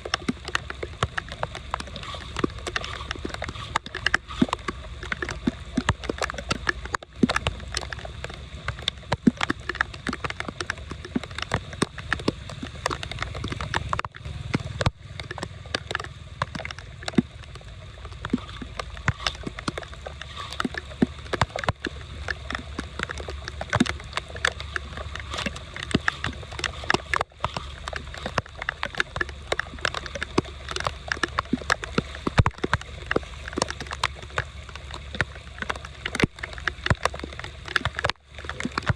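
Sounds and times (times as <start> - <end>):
floodwater sloshing and gurgling: 0.0 - 38.9
water splashes: 0.0 - 38.9.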